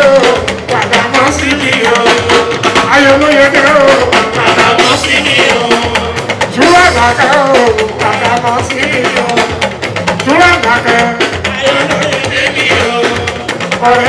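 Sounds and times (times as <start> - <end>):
person singing: 0.0 - 9.6, 10.2 - 14.0
drumming and percussion: 0.0 - 14.0.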